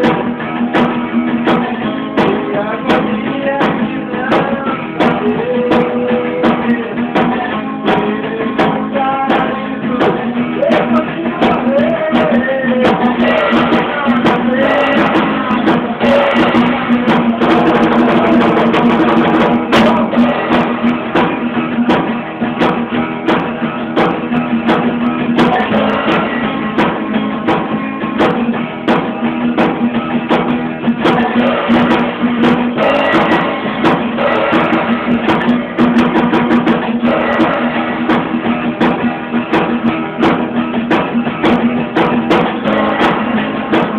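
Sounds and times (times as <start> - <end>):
drums keeping a steady beat: 0.0 - 43.9
guitar: 0.0 - 43.9.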